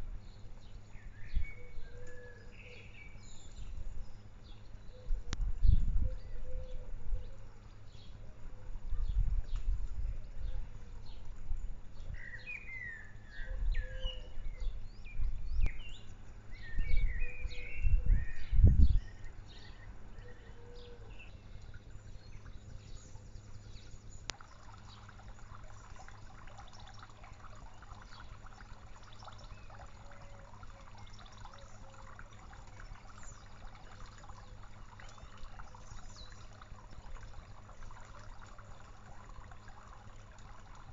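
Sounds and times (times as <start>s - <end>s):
water trickling into pond: 0.0s - 40.9s.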